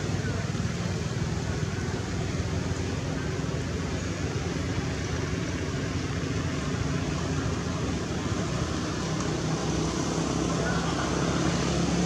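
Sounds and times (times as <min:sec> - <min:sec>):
rumbling outdoor background noise: 0:00.0 - 0:12.0.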